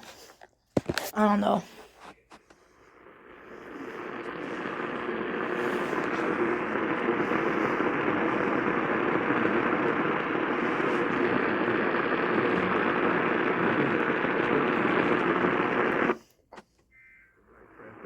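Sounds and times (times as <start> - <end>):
radio static hiss: 0.8 - 16.3, 17.0 - 18.0.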